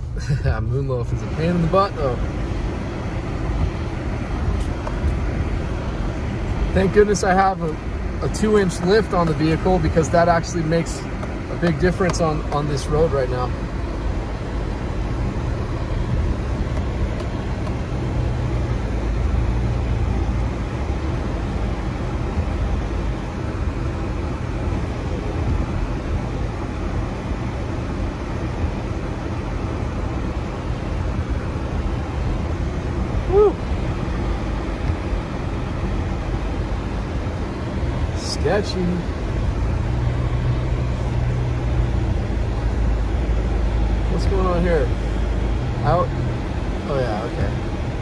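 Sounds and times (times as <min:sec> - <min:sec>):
car engine and tyres rumbling: 0:00.0 - 0:48.0.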